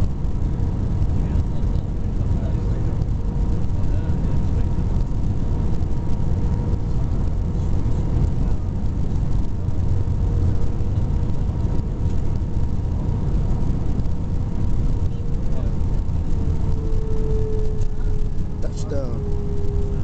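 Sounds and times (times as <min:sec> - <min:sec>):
low rumble of engines and airflow: 0:00.0 - 0:20.0.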